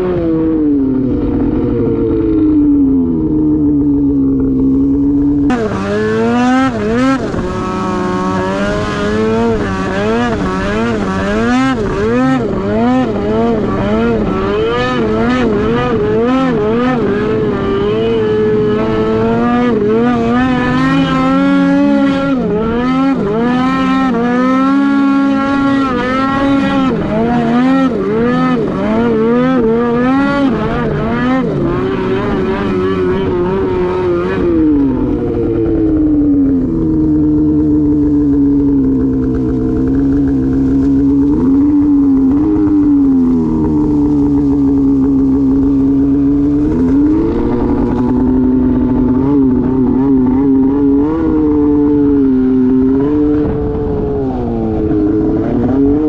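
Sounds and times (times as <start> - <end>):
snowmobile engine running hard: 0.0 - 56.0.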